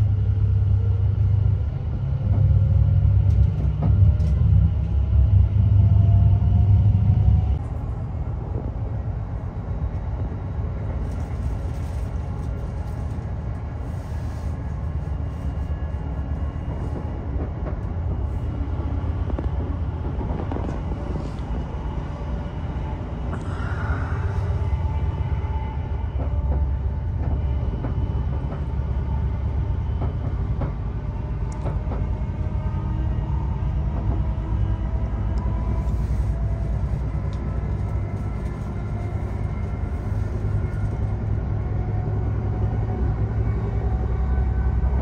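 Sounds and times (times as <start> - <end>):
train low rumble: 0.0 - 45.0.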